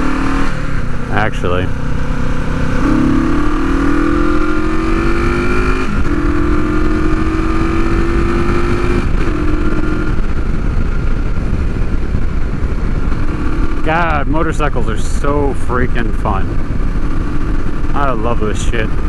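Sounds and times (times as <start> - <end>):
motorcycle engine accelerating: 0.0 - 19.0
wind rumble on microphone: 0.0 - 19.0.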